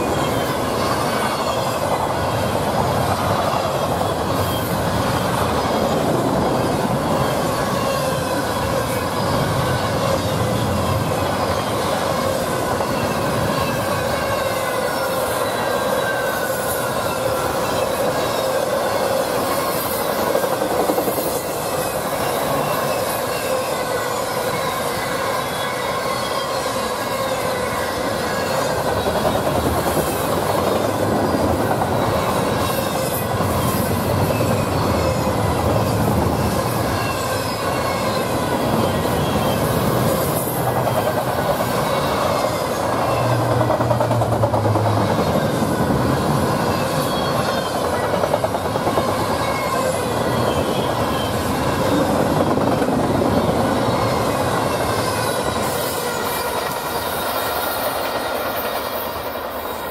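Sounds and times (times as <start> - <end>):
steel wheels rolling on rail: 0.0 - 59.9
wheels squealing: 0.0 - 59.9.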